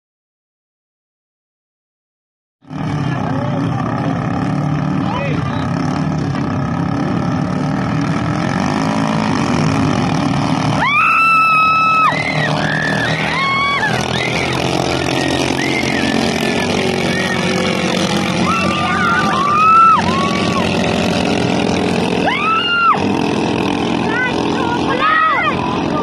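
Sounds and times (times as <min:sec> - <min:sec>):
boat engines droning: 0:02.6 - 0:26.0.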